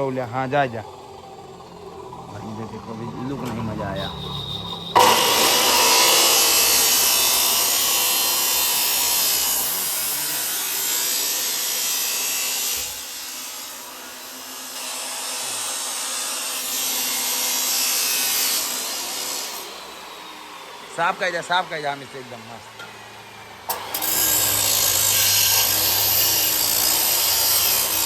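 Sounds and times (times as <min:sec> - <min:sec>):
angle grinder grinding metal: 0:00.0 - 0:28.0.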